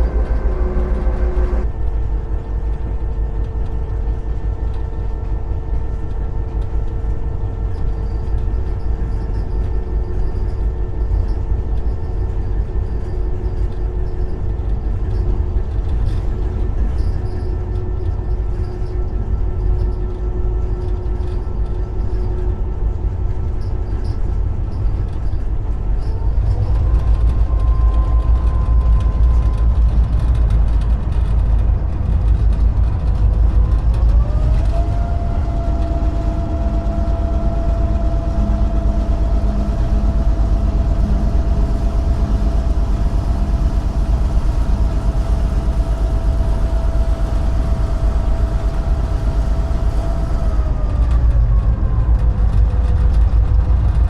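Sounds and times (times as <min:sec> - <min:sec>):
diesel locomotive engine rumbling: 0:00.0 - 0:54.0.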